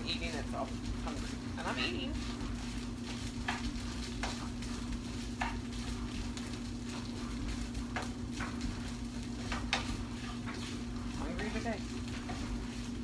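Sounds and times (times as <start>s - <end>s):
food sizzling in a frying pan: 0.0s - 13.0s
steady low hum: 0.0s - 13.0s
spatula scraping a pan: 1.1s - 13.0s.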